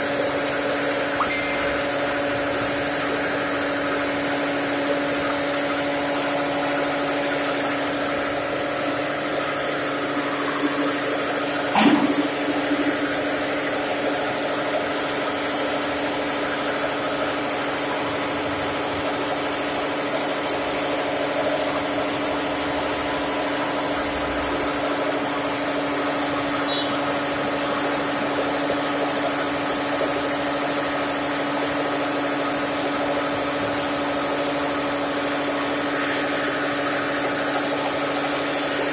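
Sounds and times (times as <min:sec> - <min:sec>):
electric flour mill whirring: 0:00.0 - 0:38.9.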